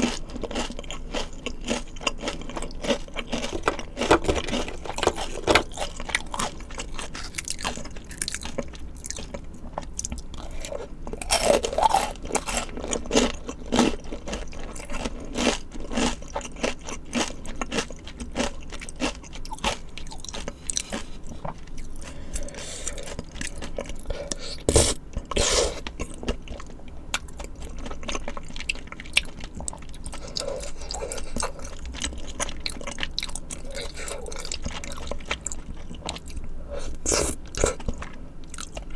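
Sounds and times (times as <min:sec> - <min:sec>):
chewing and crunching: 0:00.0 - 0:38.9.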